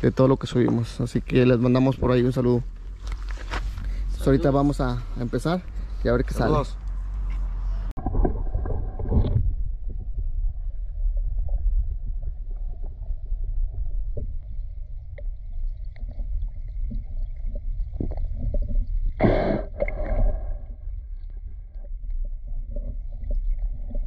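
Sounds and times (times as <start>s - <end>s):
low underwater rumble: 3.8s - 24.0s.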